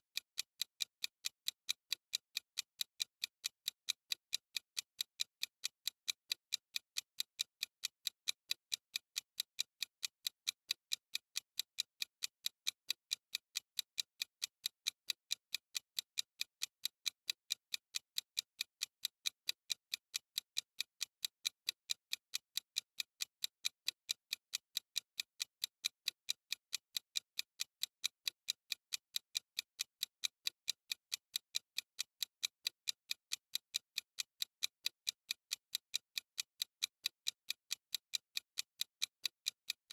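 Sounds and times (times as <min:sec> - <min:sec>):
clock ticking: 0:00.2 - 0:39.9.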